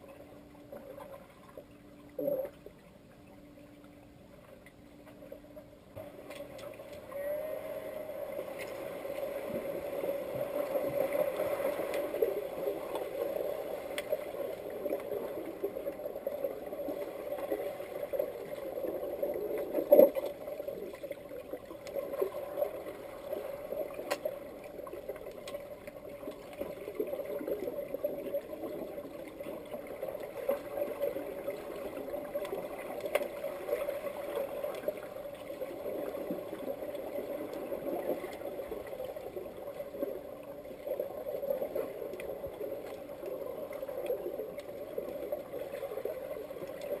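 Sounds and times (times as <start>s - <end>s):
underwater churning water: 0.0s - 47.0s.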